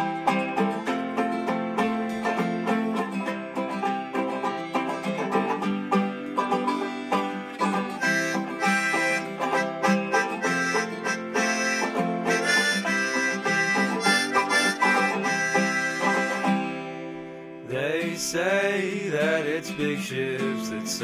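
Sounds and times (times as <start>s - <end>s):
acoustic guitar: 0.0s - 21.0s
picked banjo: 0.0s - 21.0s.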